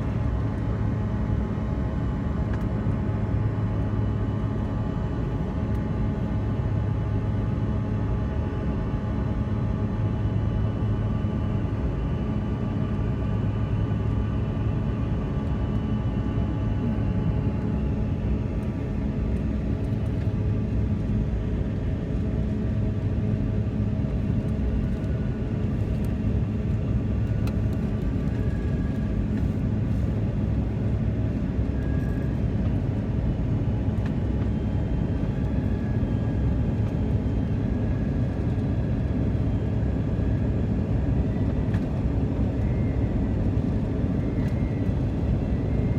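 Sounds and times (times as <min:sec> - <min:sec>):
airliner cabin engine noise: 0:00.0 - 0:45.9
low hum with steady tones: 0:00.0 - 0:45.9.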